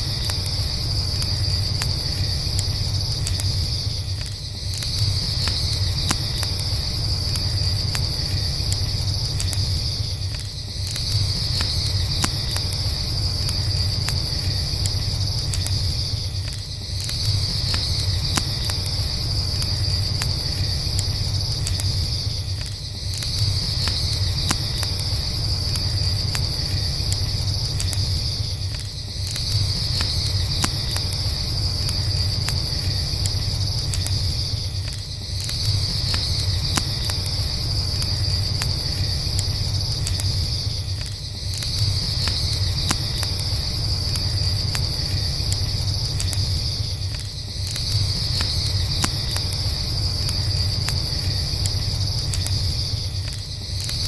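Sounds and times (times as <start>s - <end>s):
campfire crackling: 0.0s - 54.0s
crickets chirping: 0.0s - 54.0s.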